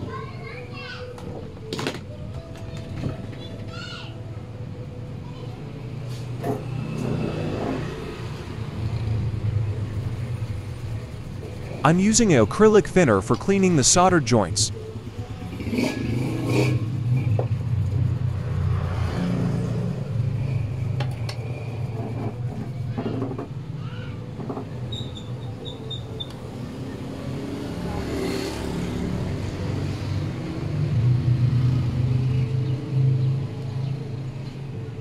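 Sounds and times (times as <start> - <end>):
vehicle engine droning: 4.4 - 35.0.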